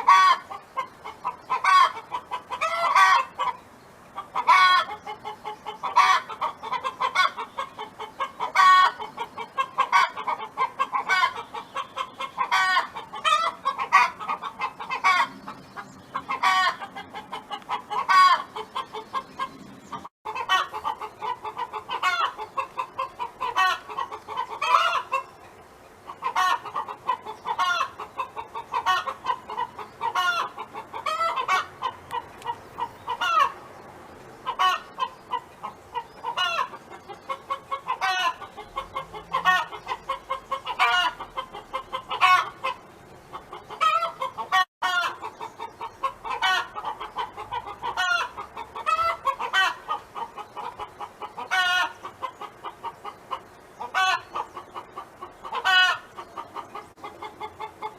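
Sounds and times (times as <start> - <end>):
hen clucking: 0.0 - 33.8, 34.4 - 57.9.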